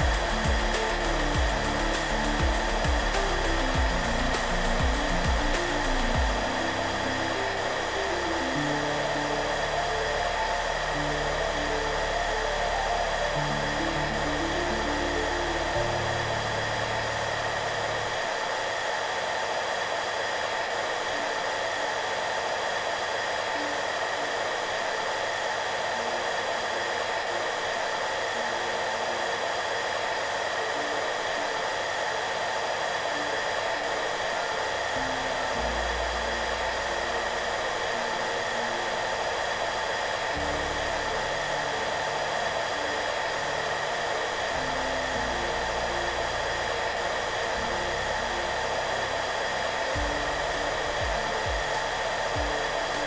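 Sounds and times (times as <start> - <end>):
soft low music: 0.0 - 19.4, 23.2 - 53.0
hairdryer running: 0.0 - 53.0.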